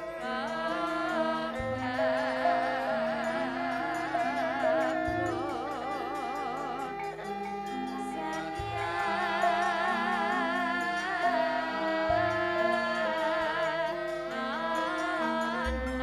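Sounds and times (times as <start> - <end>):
metallophone notes: 0.0 - 16.0
women singing with vibrato: 0.0 - 16.0.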